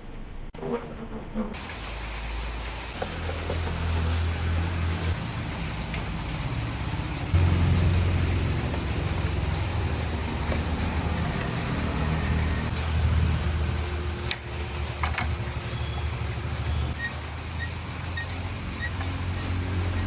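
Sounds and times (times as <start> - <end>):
motor humming: 1.6 - 20.0.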